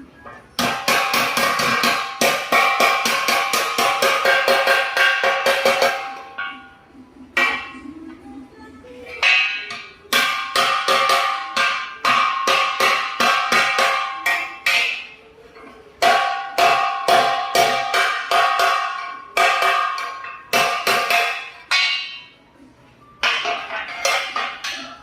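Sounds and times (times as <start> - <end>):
hammer clanging on steel: 0.2 - 6.8, 7.4 - 7.9, 9.0 - 22.4, 23.1 - 25.0.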